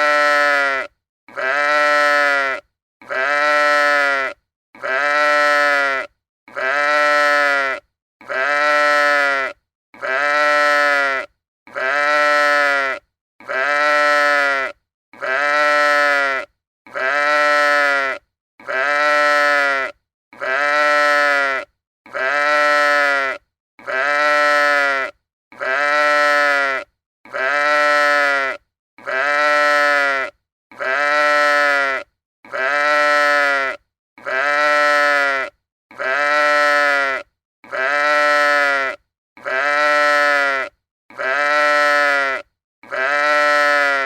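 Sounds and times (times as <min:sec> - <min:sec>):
farm animal bleating: 0:00.0 - 0:44.0.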